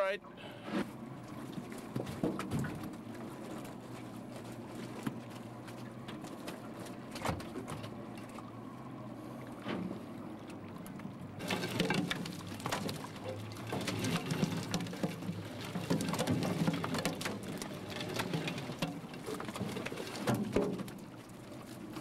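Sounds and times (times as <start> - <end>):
boat motor running: 0.0 - 22.0
knocks and splashes: 0.8 - 8.6, 9.4 - 22.0
wet fish and net slapping: 1.2 - 8.4, 11.4 - 22.0.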